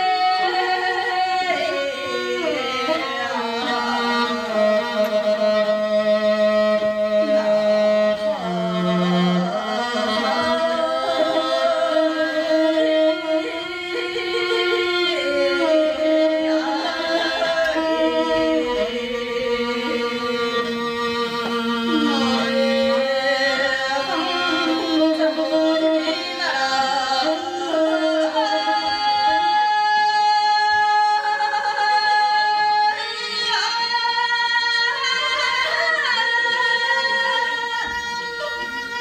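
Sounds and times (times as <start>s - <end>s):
bowed string instrument: 0.0s - 39.0s.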